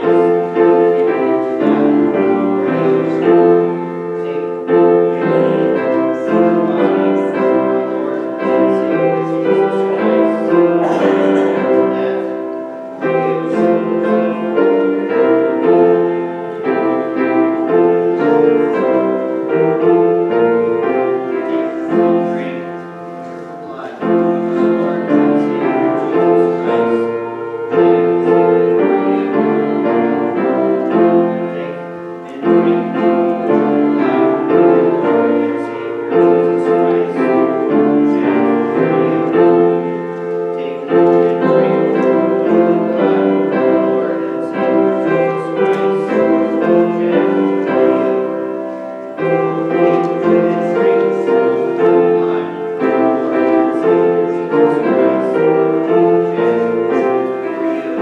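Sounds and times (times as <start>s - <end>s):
hymn on keyboard: 0.0s - 58.0s.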